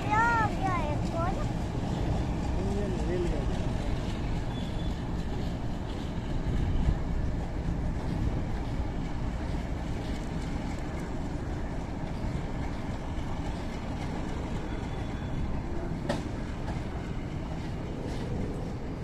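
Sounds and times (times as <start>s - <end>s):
freight train wheels rumbling on track: 0.0s - 19.0s.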